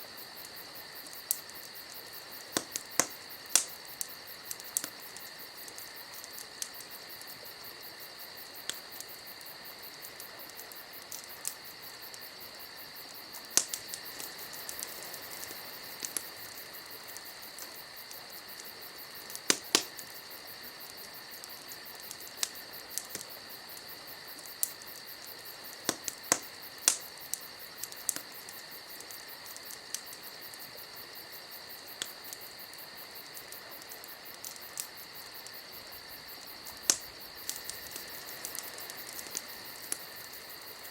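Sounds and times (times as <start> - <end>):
campfire crackling: 0.0 - 40.9
steady high hiss: 0.0 - 40.9.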